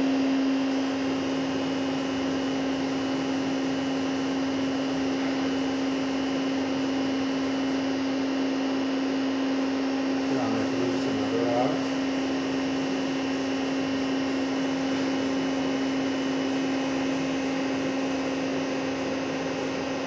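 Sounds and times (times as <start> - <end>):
lathe humming and hissing: 0.0 - 20.0.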